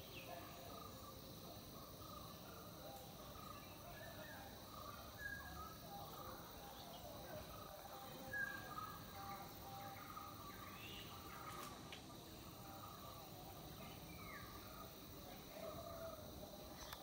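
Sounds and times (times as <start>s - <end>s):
distant birds chirping: 0.0s - 17.0s
soft steady hiss: 0.0s - 17.0s.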